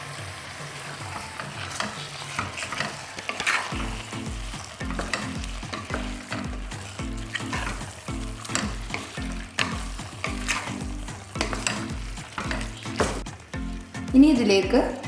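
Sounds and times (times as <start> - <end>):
meat sizzling in oil: 0.0 - 14.1
spatula scraping pot: 0.5 - 14.0.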